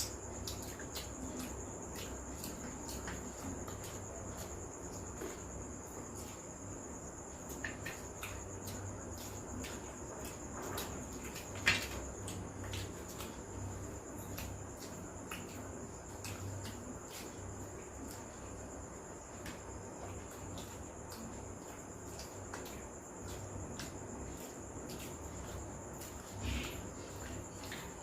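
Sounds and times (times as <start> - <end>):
people chewing and eating: 0.0 - 28.0.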